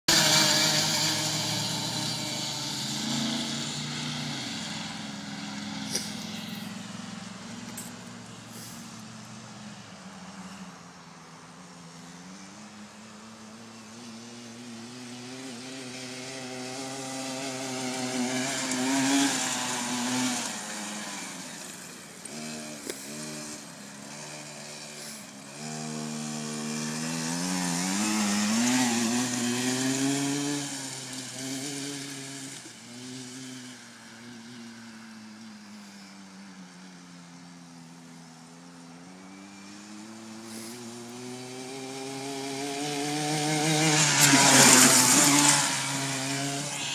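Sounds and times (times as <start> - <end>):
quad bike engine revving: 0.0 - 10.6, 11.7 - 46.9.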